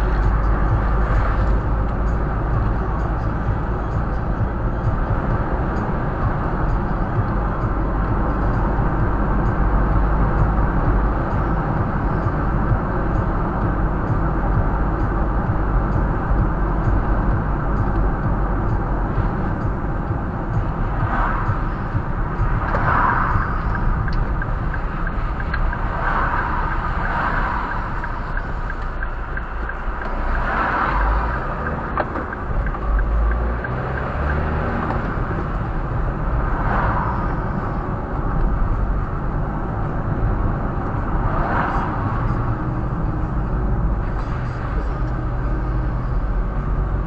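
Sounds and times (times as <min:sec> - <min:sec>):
road vehicle rumbling: 0:00.0 - 0:47.0.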